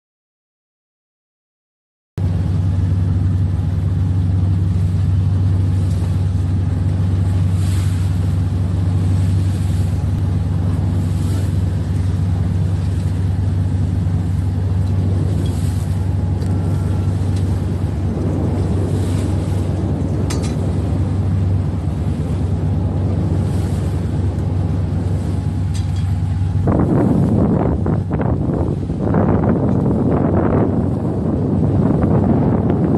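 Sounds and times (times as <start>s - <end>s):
engine droning steadily: 2.2s - 32.9s.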